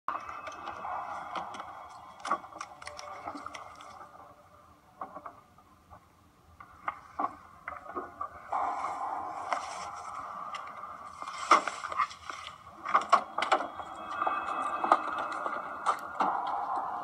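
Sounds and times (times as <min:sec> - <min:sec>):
film soundtrack on laptop speakers: 0:00.0 - 0:17.0.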